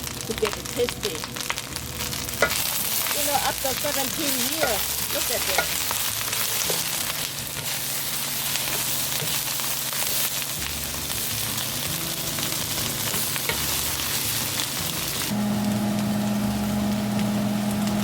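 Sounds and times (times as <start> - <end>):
frying in oil sizzling: 0.0 - 18.0.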